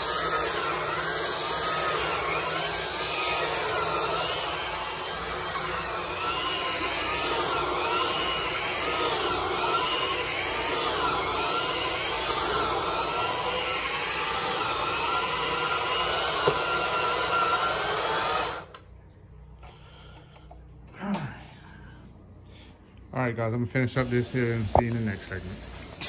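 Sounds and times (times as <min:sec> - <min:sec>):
carpet machine motor hum: 0:00.0 - 0:18.9, 0:23.8 - 0:26.0.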